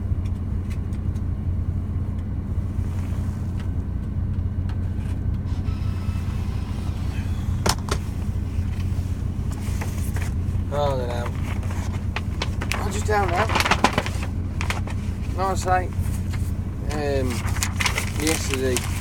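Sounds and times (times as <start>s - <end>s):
low hum inside lorry cab: 0.0s - 19.0s.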